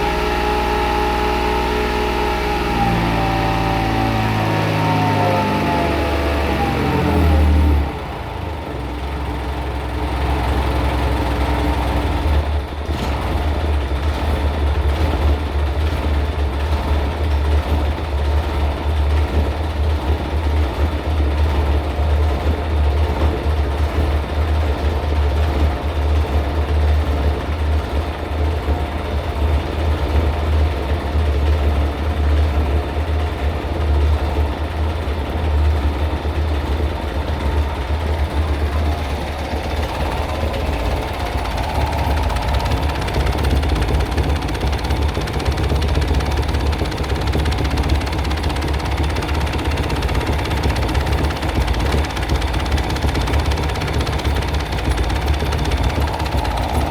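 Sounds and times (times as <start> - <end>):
diesel engine knocking: 0.0 - 56.9.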